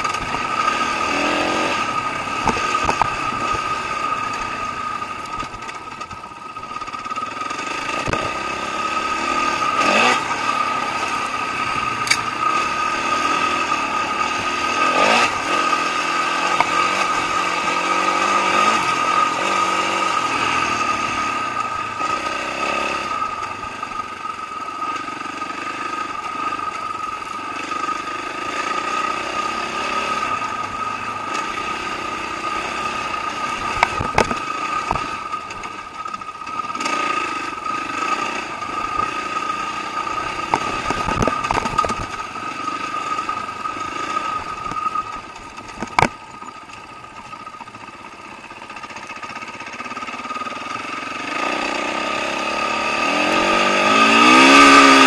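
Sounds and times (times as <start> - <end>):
dirt bike engine revving: 0.0 - 55.0
high whine: 0.0 - 55.0.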